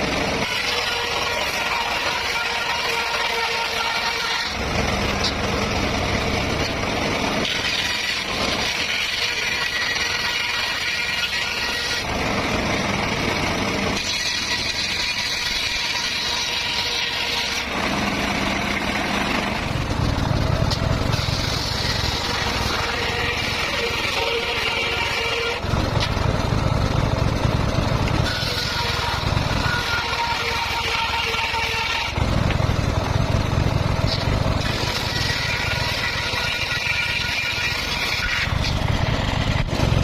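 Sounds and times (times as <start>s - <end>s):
circular saw cutting bamboo: 0.0s - 40.0s.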